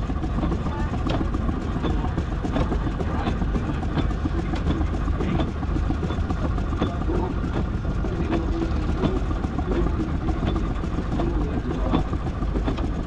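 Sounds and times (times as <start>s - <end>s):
low engine rumble: 0.0s - 13.0s
steam engine exhaust beating: 0.0s - 13.0s.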